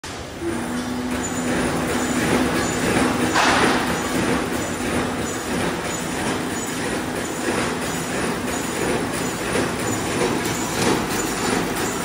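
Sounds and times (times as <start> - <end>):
machinery running: 0.1 - 12.0.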